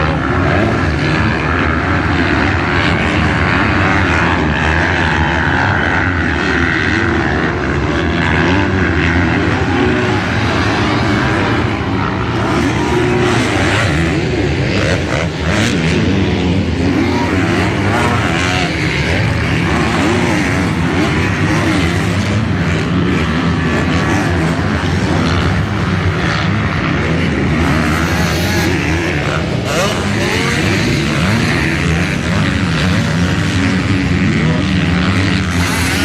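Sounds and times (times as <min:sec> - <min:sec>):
motocross bikes revving: 0:00.0 - 0:36.0.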